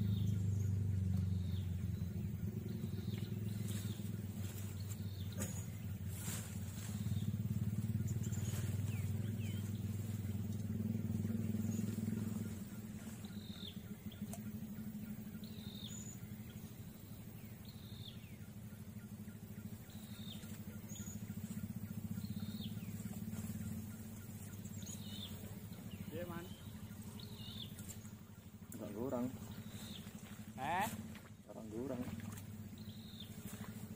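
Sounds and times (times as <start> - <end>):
bird calling: 0.0 - 33.9
small engine running: 0.0 - 33.9.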